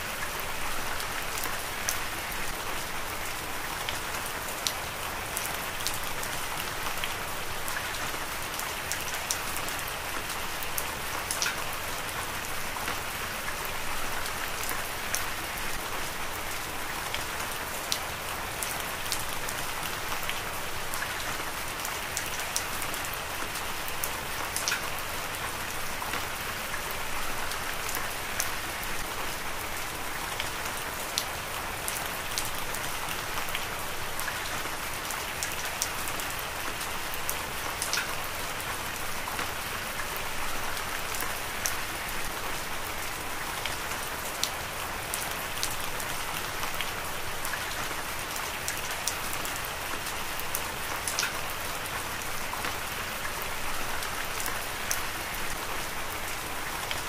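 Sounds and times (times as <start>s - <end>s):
raindrops ticking on a surface: 0.1s - 57.0s.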